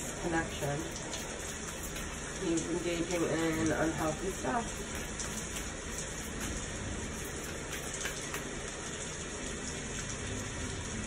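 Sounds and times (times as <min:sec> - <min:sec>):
steady rain hissing: 0:00.0 - 0:11.0.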